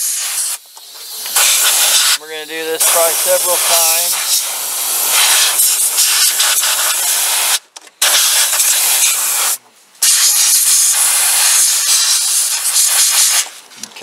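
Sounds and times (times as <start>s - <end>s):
air blow gun hissing: 0.0s - 13.6s.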